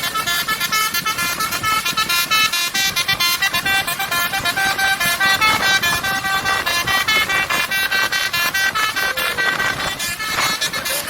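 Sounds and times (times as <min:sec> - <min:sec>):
musical air horn melody: 0:00.0 - 0:11.0.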